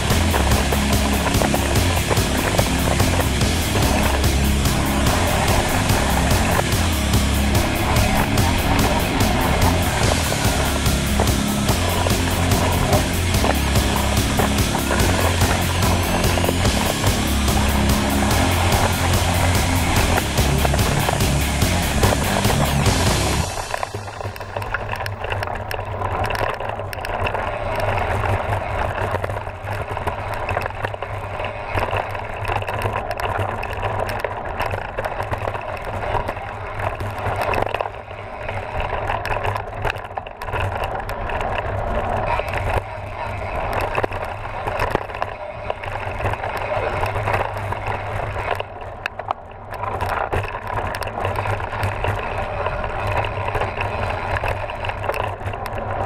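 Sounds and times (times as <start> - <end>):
bike rattling over bumps: 0.0 - 56.0
tyres rumbling on dirt: 0.0 - 56.0.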